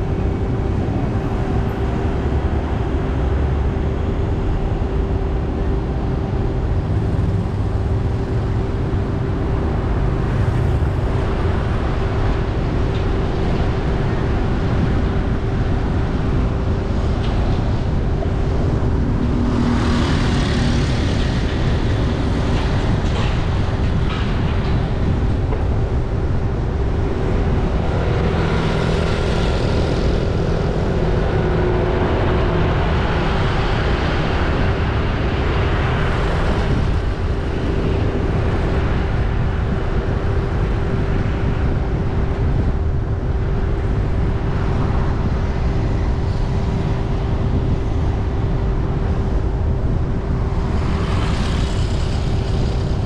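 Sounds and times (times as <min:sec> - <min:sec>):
vehicle road noise: 0:00.0 - 0:53.0.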